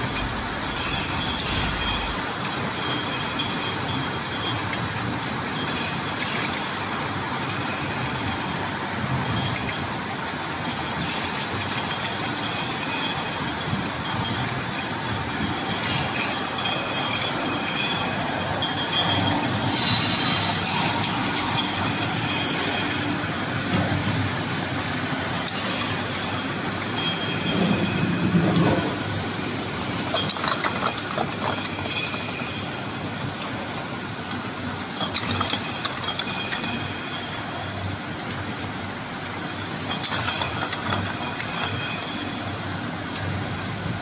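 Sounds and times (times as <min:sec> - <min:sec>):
bottles clattering: 0:00.0 - 0:32.7, 0:34.9 - 0:37.7, 0:39.6 - 0:42.4
bottle washing machine running: 0:00.0 - 0:44.0.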